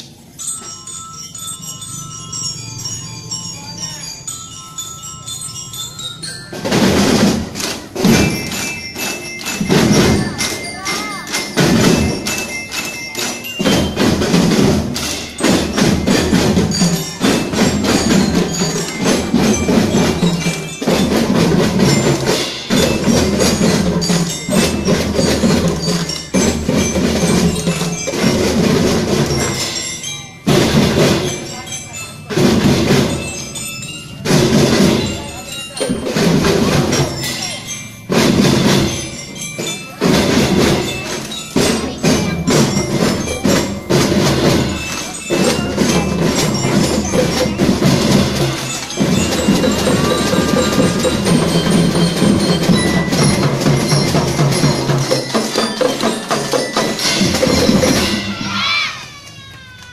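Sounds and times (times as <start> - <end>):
glockenspiels struck with mallets: 0.0 - 59.3
drums: 0.0 - 59.9.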